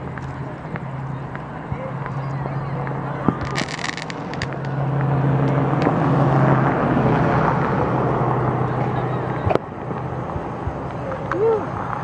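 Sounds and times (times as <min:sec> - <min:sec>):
distant fireworks popping: 0:00.0 - 0:07.8, 0:08.7 - 0:12.0
vehicle engine passing: 0:00.0 - 0:12.0.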